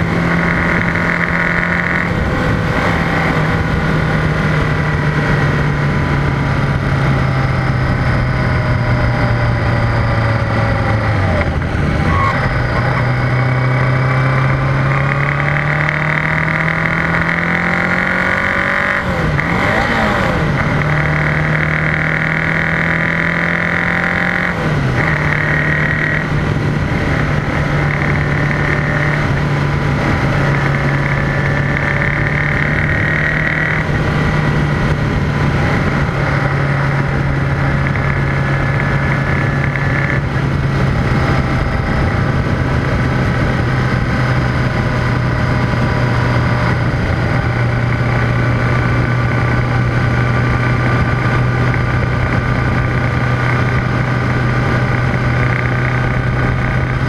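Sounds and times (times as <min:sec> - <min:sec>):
motorcycle engine pulling away: 0:00.0 - 0:57.0
wind and road noise: 0:00.0 - 0:57.0.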